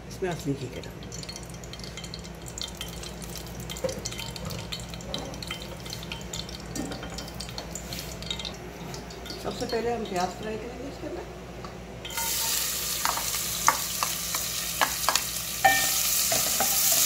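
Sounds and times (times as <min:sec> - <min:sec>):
oil crackling and sizzling: 0:00.1 - 0:10.7, 0:12.0 - 0:17.0.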